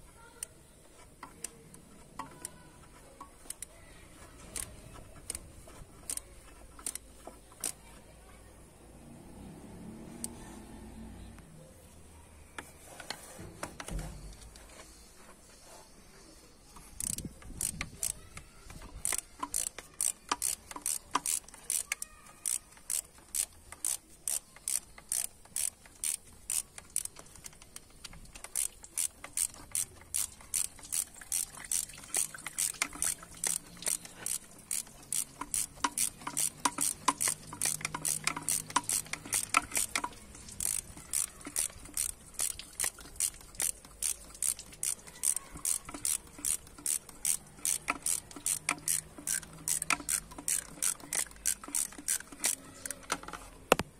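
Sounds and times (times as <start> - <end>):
hand ratchet clicking: 0.0 - 7.8, 16.8 - 53.9.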